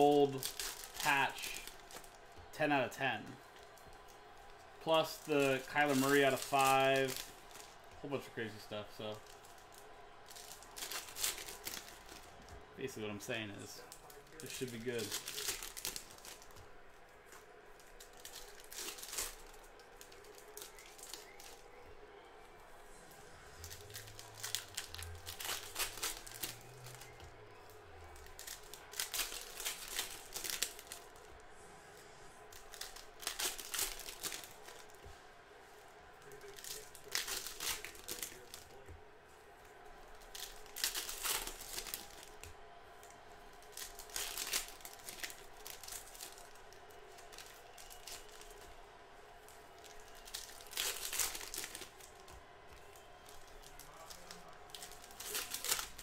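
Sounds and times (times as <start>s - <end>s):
plastic wrapping crinkling and tearing: 0.0s - 21.8s, 23.6s - 31.5s, 32.4s - 35.1s, 36.1s - 38.9s, 39.6s - 56.0s.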